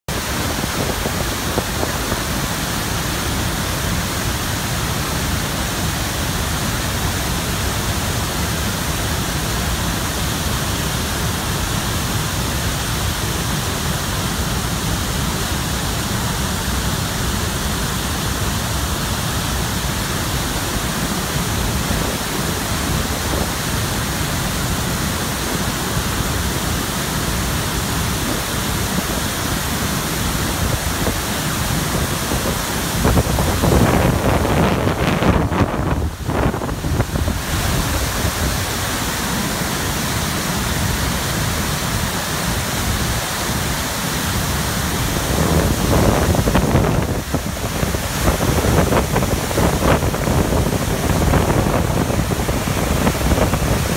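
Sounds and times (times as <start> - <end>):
waterfall rushing roar: 0.0 - 53.9.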